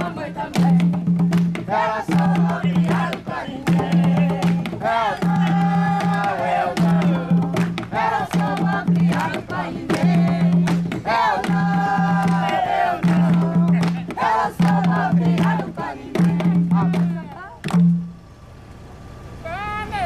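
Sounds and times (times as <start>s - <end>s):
voices singing: 0.0s - 17.7s
hand drums beating: 0.0s - 18.1s
sharp percussive strikes: 0.0s - 18.2s.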